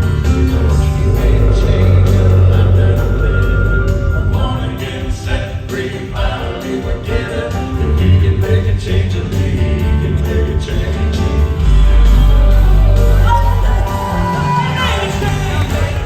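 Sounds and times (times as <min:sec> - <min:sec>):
live gospel band music: 0:00.0 - 0:16.0.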